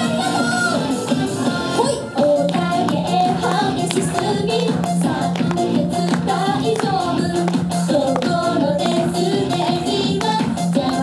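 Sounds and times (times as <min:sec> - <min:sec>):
group singing pop song: 0:00.0 - 0:11.0
music with steady beat: 0:00.0 - 0:11.0.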